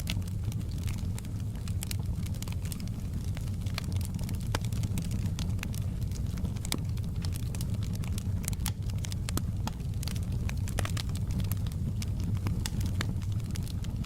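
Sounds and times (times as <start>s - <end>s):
burning wood crackling and popping: 0.0s - 14.0s
fire rumbling: 0.0s - 14.0s.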